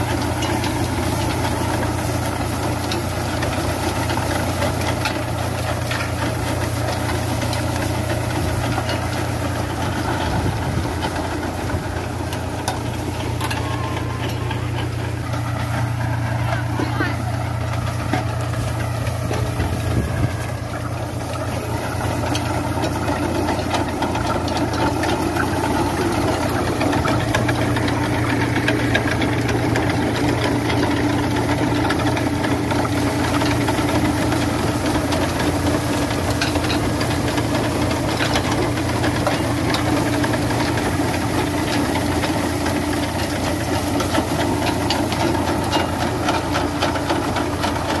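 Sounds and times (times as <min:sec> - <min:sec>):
digger clattering and rattling: 0:00.0 - 0:48.0
tractor engine running: 0:00.0 - 0:48.0.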